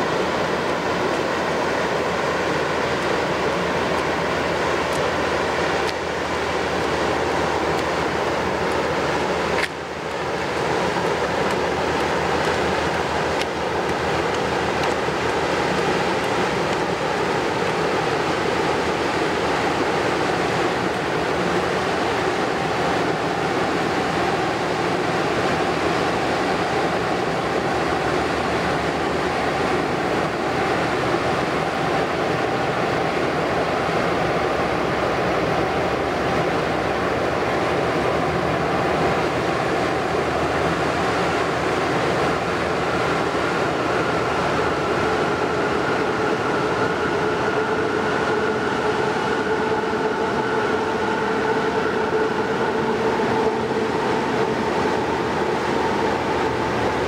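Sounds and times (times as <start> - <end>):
ship diesel engine running: 0.0 - 57.0
water rushing along hull: 0.0 - 57.0.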